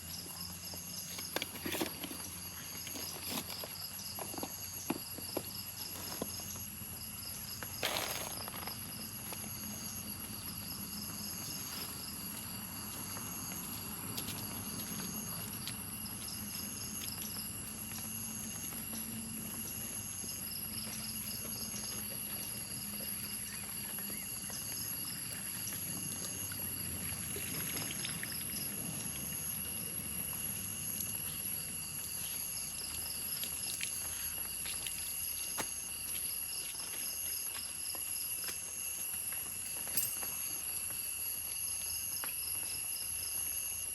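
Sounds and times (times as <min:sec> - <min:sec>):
insects buzzing: 0:00.0 - 0:43.9
pulsing insect chirp: 0:00.0 - 0:43.9.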